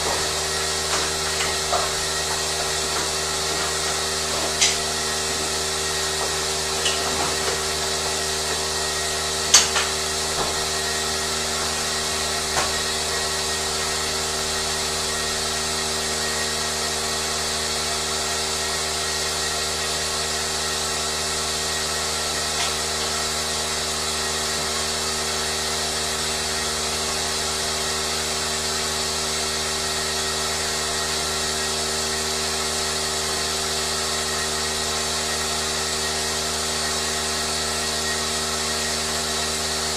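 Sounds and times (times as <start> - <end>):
machine whirring hum: 0.0 - 39.9.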